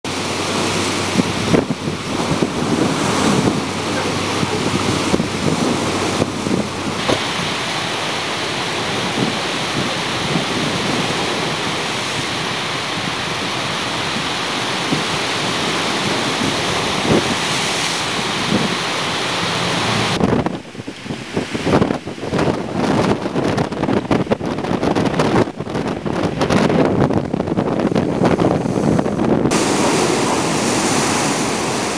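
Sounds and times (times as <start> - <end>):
surf crashing on rocky shore: 0.0 - 31.9
wind buffeting microphone: 0.1 - 31.9.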